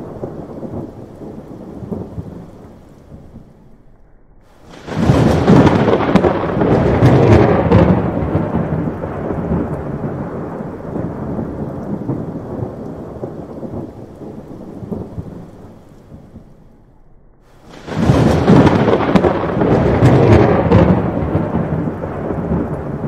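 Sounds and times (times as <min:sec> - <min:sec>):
thunder crack with crackling: 0:00.0 - 0:23.0
thunder rumble: 0:00.0 - 0:23.0.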